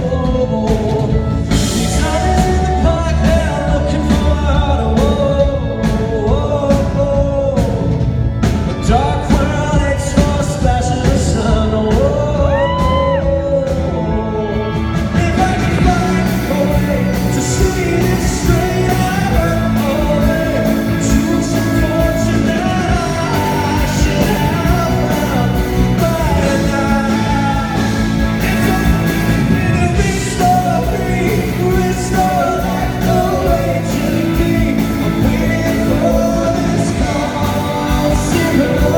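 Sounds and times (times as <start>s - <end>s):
man singing: 0.0s - 38.9s
rock band playing live: 0.0s - 38.9s.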